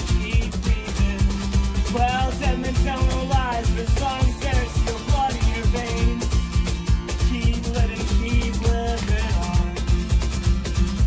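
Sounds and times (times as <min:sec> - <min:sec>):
cajon beat: 0:00.0 - 0:11.0
strummed acoustic guitar: 0:00.0 - 0:11.0.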